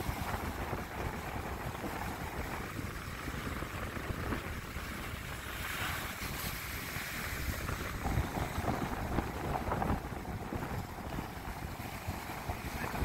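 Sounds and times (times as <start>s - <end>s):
heavy surf breaking: 0.0s - 13.0s
wind buffeting microphone: 0.0s - 13.0s.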